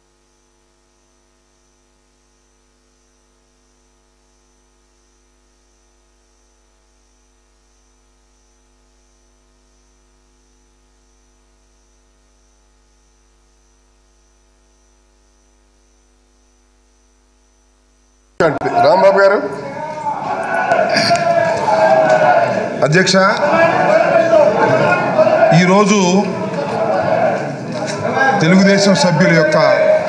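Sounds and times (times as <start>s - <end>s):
electrical mains hum: 0.0s - 30.0s
faint high whine: 0.0s - 30.0s.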